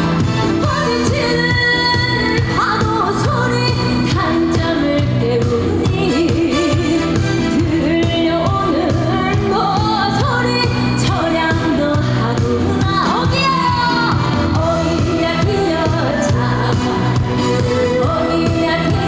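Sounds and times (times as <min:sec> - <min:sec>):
amplified band accompaniment: 0:00.0 - 0:19.0
woman singing: 0:00.5 - 0:19.0.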